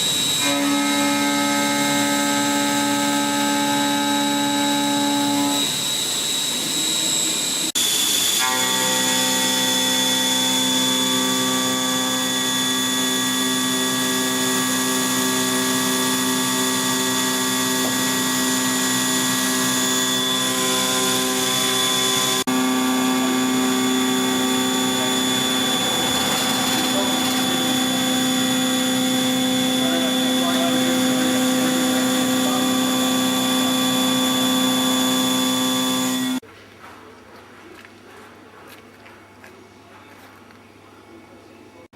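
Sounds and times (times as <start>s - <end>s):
milling machine whine: 0.0s - 36.4s.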